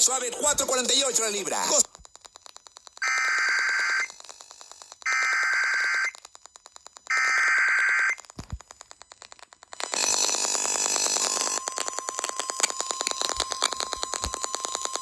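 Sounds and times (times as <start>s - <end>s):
rapid static ticking: 0.0s - 15.0s.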